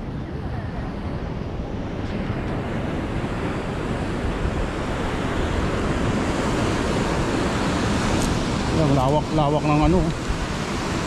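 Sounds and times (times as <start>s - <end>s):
wind buffeting microphone: 0.0s - 11.0s
ocean waves breaking: 2.1s - 11.0s.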